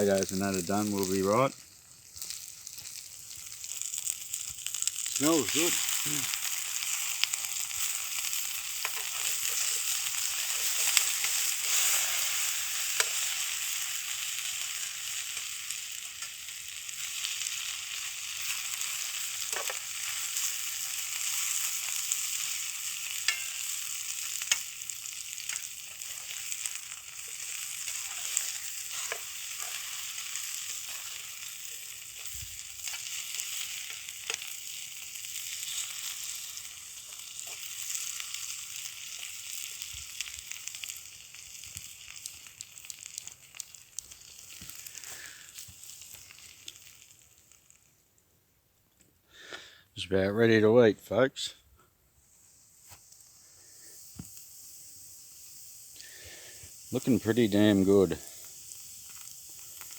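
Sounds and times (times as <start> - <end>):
sausages sizzling on a grill: 0.0 - 59.9.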